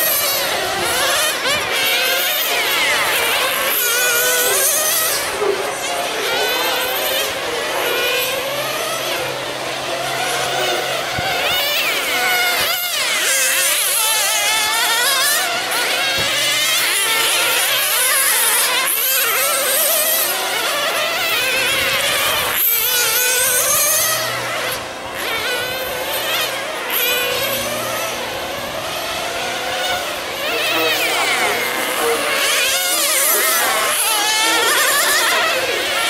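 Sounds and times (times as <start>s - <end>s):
model car engines buzzing: 0.0s - 36.0s.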